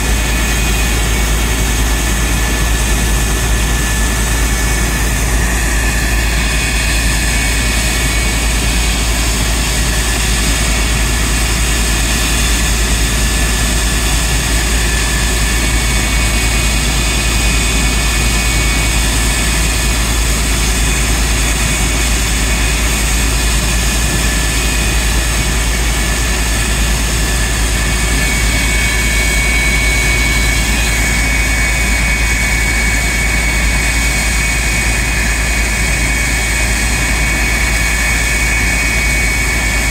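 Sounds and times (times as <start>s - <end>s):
high steady engine whine: 0.0s - 39.9s
jet engine running: 0.0s - 39.9s.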